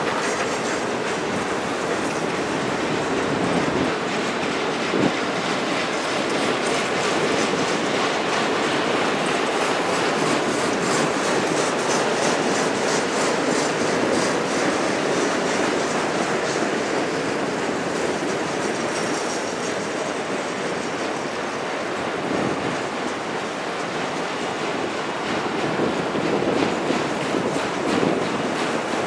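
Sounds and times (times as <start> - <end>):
freight train rumble: 0.0 - 29.0
train wheels clicking over rail joints: 0.0 - 29.0.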